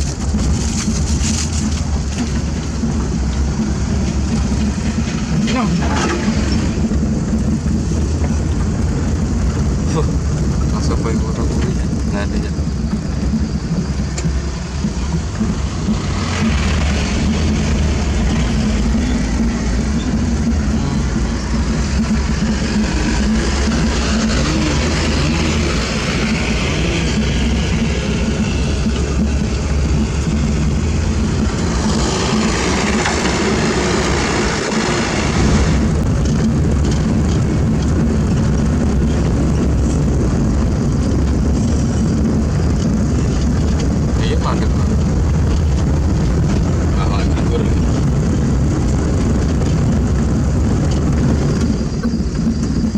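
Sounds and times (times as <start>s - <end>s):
heavy diesel engine running: 0.0s - 52.9s
rushing noise: 0.0s - 52.9s.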